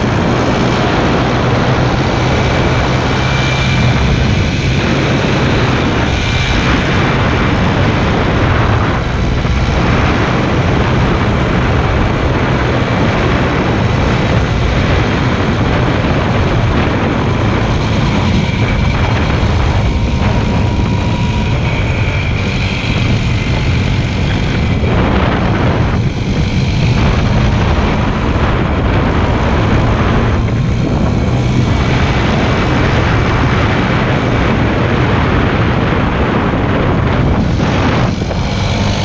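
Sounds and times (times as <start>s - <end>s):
motorcycle engine droning: 0.0s - 39.0s
rushing wind noise: 0.0s - 39.0s.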